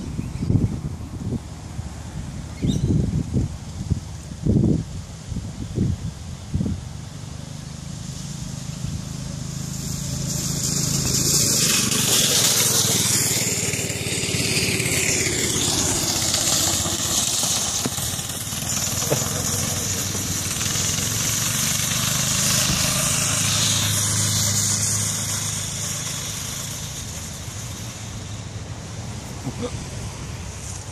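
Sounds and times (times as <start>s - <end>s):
go-kart engine running: 6.1s - 30.9s.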